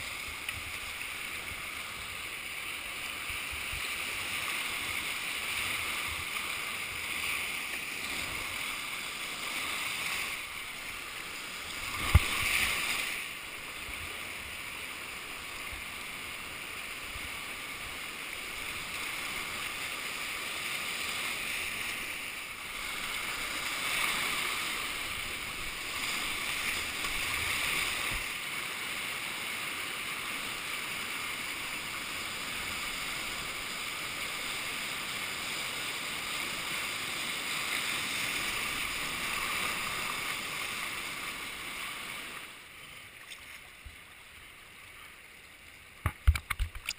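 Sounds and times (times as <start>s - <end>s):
whitewater rushing: 0.0s - 42.6s.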